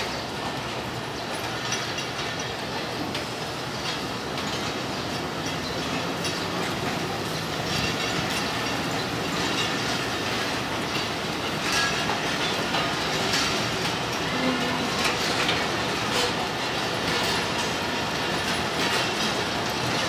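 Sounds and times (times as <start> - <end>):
train wheels rumbling on track: 0.0 - 20.0
wheels clacking over rail joints: 0.0 - 20.0.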